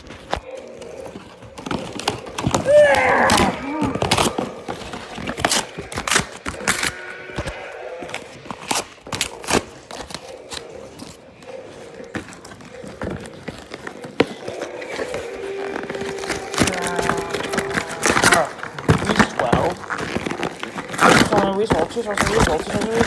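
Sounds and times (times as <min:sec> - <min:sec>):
plastic toy packaging handling: 0:00.0 - 0:23.0.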